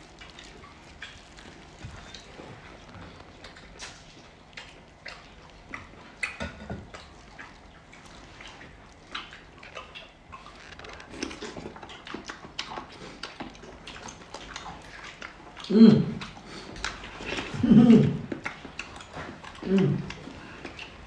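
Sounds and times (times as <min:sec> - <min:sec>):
chewing and lip-smacking: 0:00.0 - 0:21.0.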